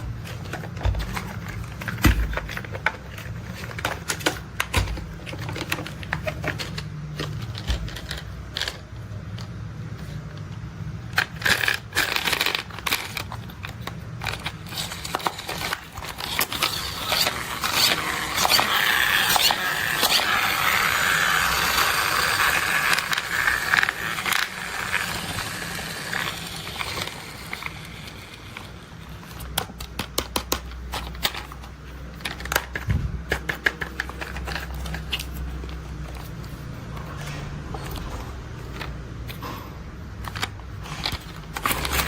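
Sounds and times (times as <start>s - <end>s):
toy parts clicking and rattling: 0.0s - 39.5s, 40.1s - 42.0s.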